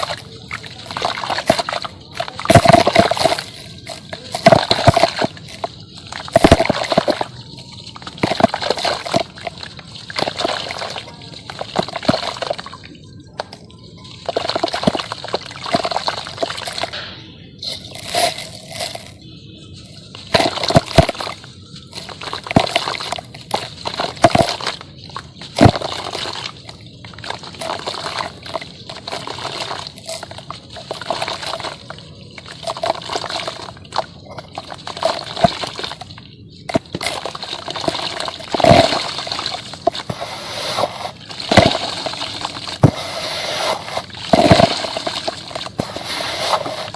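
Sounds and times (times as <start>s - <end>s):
grains trickling: 0.0s - 46.9s
sand-cement crumbling and crunching: 0.0s - 46.9s.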